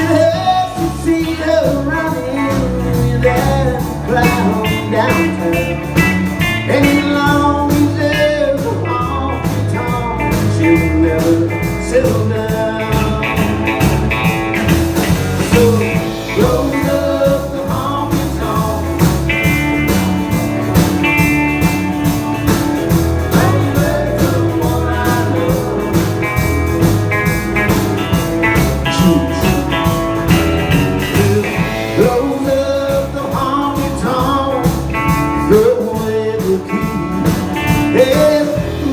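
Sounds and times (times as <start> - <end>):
live band playing blues-rock: 0.0 - 38.9.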